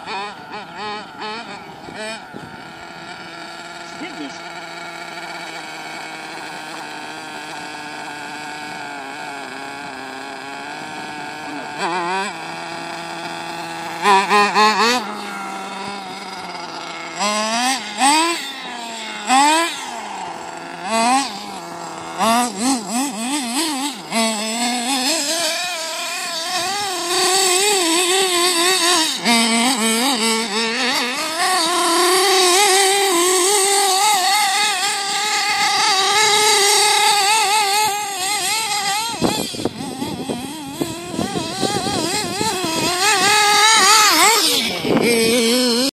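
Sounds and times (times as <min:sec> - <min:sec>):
rc car engine revving: 0:00.0 - 0:45.9.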